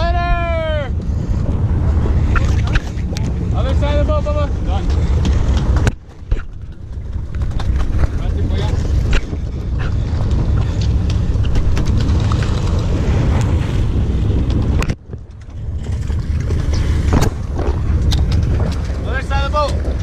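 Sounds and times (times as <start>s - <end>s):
boat engine rumble: 0.0s - 20.0s
wind on microphone: 0.0s - 20.0s.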